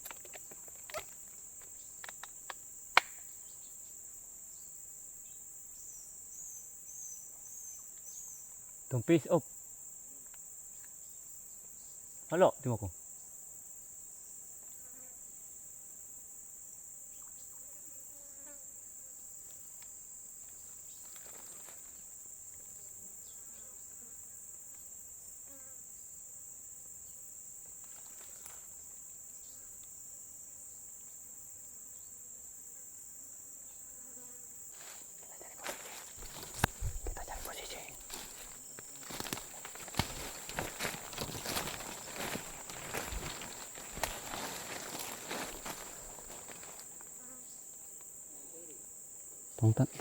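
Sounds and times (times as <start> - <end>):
insects trilling: 0.0 - 50.0.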